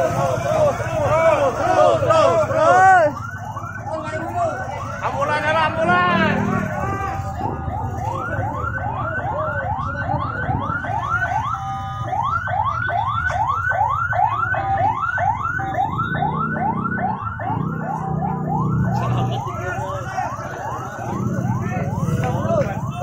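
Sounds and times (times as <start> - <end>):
vehicle alarm siren whooping: 0.0 - 23.0.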